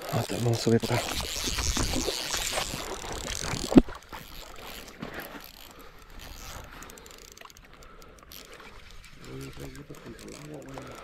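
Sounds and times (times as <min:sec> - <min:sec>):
fishing reel ratcheting whir: 0:00.0 - 0:11.0.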